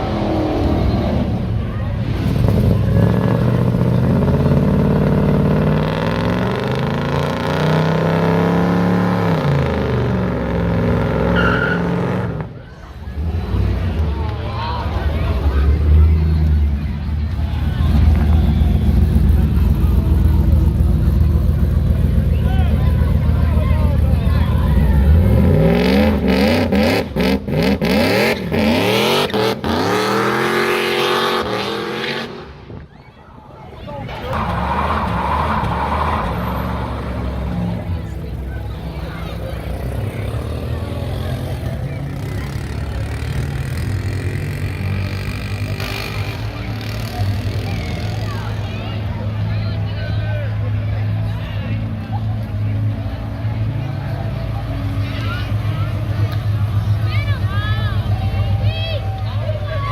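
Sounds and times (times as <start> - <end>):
car engine revving: 0.0 - 32.7, 34.1 - 59.9.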